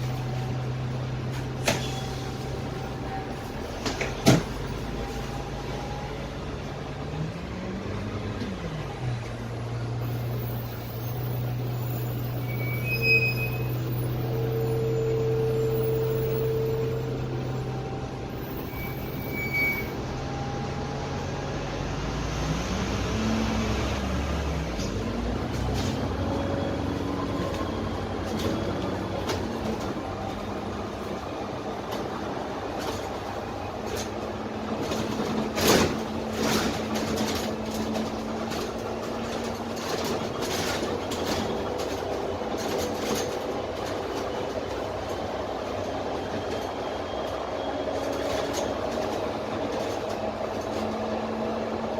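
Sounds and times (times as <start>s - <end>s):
bus diesel engine drone: 0.0s - 51.9s.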